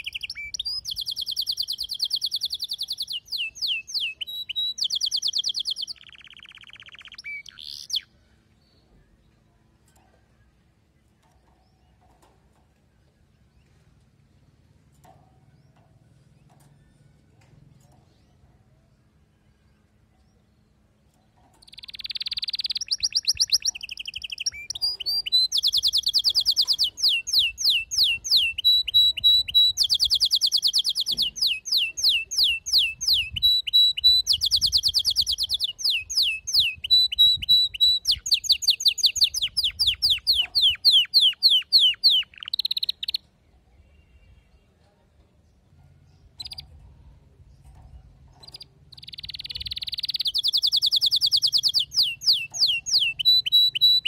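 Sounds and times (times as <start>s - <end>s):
canary singing trills: 0.0s - 10.0s, 15.0s - 44.8s, 45.5s - 54.0s.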